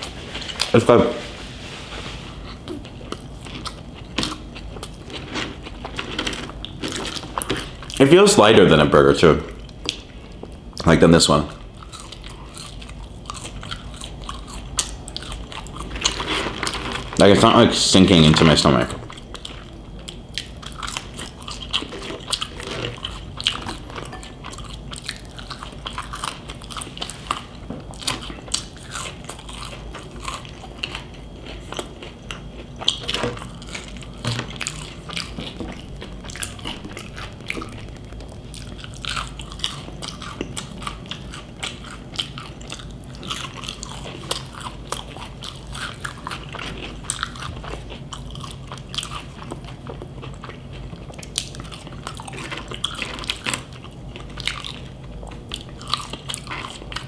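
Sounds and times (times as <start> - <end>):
person chewing food: 0.0 - 0.8, 1.5 - 8.2, 9.5 - 10.9, 11.5 - 17.4, 18.3 - 57.0.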